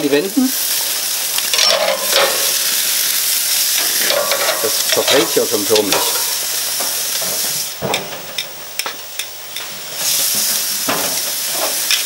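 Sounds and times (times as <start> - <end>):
steaks sizzling on a grill: 0.0 - 12.0.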